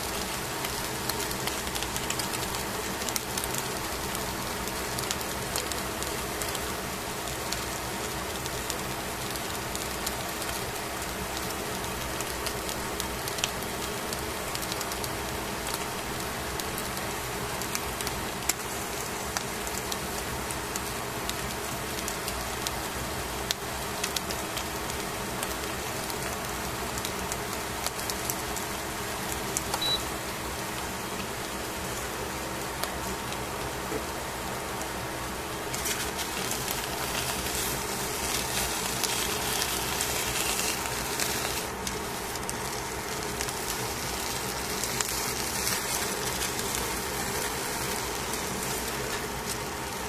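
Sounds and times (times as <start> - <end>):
fish sizzling in a pan: 0.0 - 33.7, 34.7 - 50.0.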